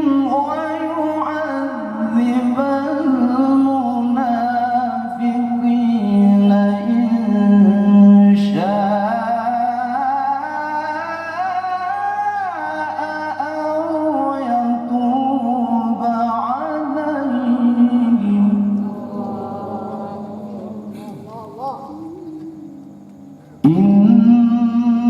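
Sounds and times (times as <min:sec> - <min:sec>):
man chanting melodically: 0:00.0 - 0:25.0.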